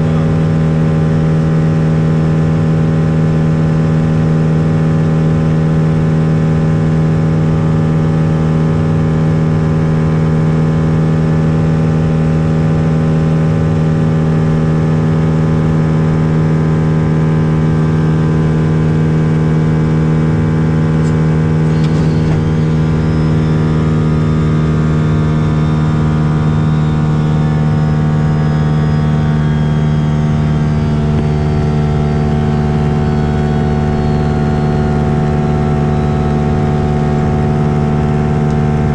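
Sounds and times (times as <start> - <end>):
propeller aircraft engine droning: 0.0 - 38.9.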